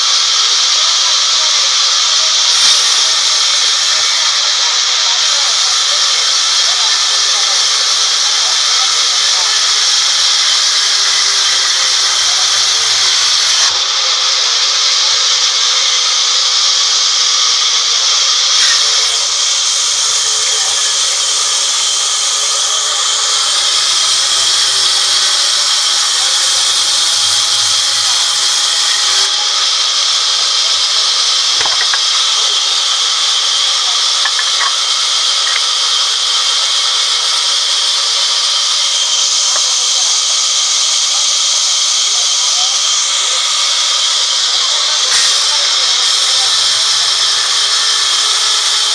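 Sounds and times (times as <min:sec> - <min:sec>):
band saw cutting wood: 0:00.0 - 0:48.9.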